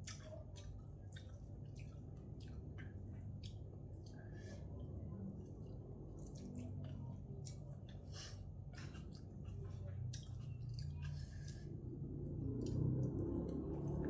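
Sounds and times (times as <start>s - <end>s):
wet chewing and mouth clicks: 0.0s - 4.3s, 5.4s - 11.8s, 12.4s - 14.0s
low steady hum: 0.0s - 14.0s.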